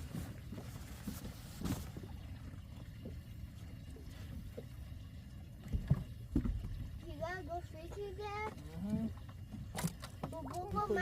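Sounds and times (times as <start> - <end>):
boat engine low rumble: 0.0 - 11.0
faint water sounds: 0.0 - 11.0.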